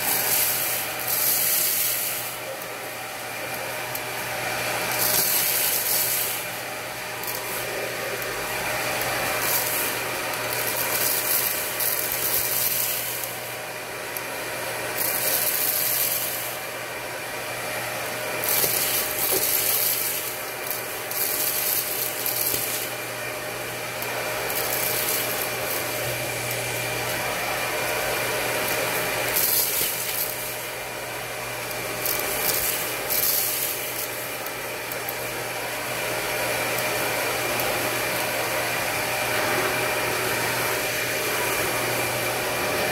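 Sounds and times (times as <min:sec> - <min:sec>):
vacuum nozzle sucking debris hiss: 0:00.0 - 0:38.2
vacuum cleaner motor whine: 0:00.0 - 0:42.9.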